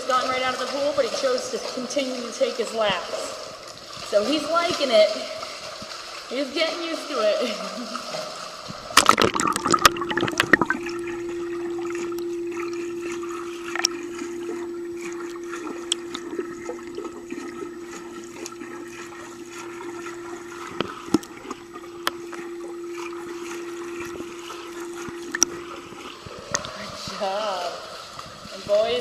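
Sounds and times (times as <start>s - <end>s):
steady hum: 0.0s - 29.0s
water lapping and trickling: 0.0s - 29.0s.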